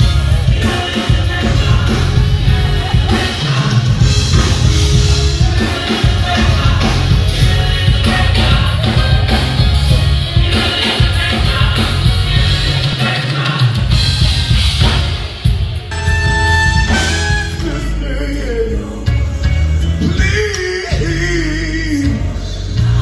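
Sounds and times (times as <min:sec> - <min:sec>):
gospel singers: 0:00.0 - 0:14.4, 0:15.9 - 0:23.0
band with drum kit: 0:00.0 - 0:23.0.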